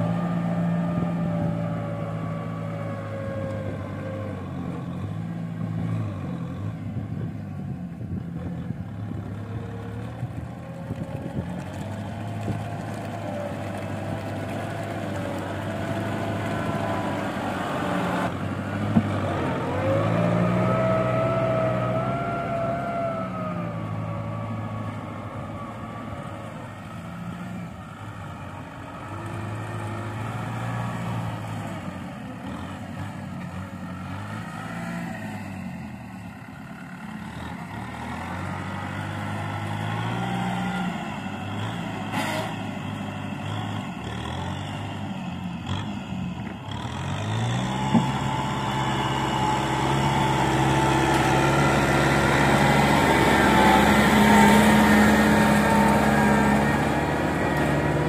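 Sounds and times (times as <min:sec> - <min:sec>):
tractor diesel engine labouring: 0:00.0 - 0:58.0.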